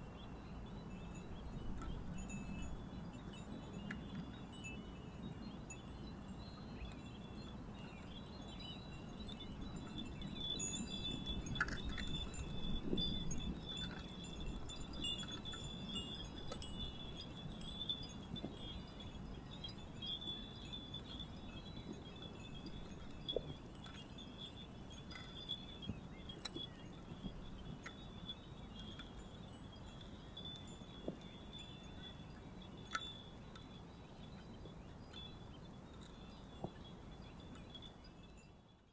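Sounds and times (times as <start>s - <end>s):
iron wind bells tinkling: 0.0s - 38.9s.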